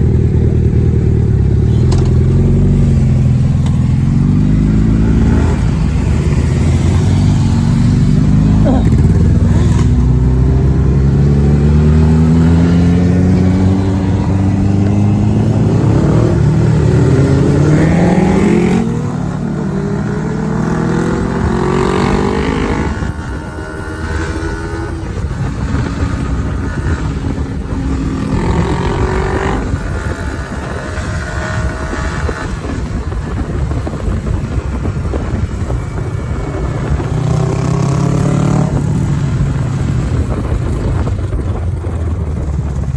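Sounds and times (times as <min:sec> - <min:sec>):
motorcycle engine accelerating hard: 0:00.0 - 0:42.9.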